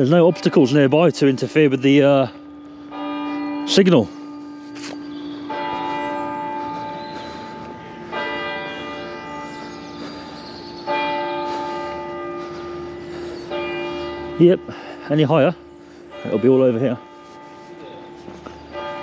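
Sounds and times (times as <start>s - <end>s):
church bell tolling: 0.0s - 19.0s.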